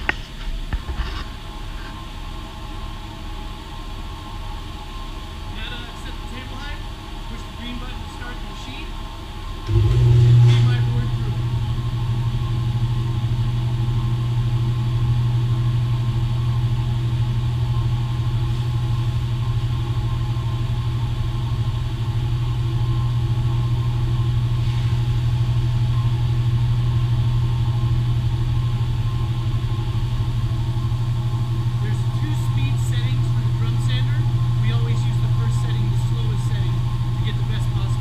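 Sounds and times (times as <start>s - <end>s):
dust collector humming: 0.0s - 38.0s.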